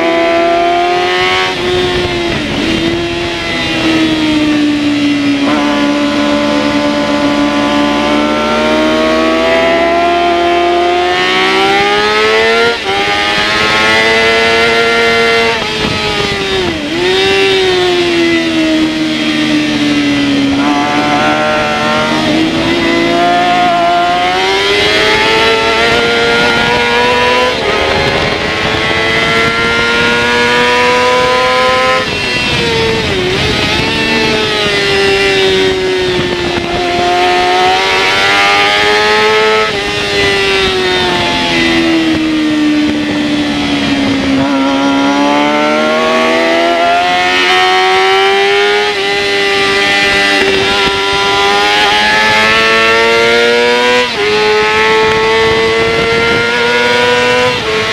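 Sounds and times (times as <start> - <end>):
motorcycle engine at racing revs: 0.0 - 57.9.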